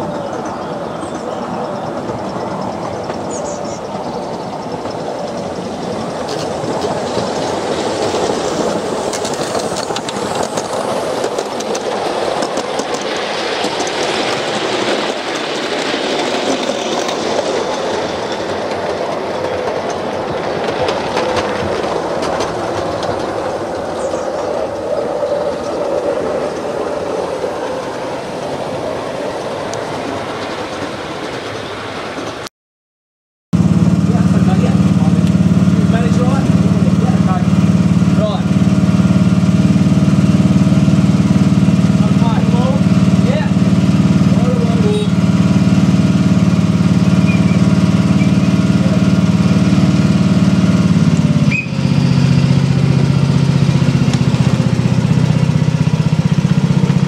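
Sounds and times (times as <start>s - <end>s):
model train wheels on rail: 0.1s - 32.5s, 33.6s - 57.0s.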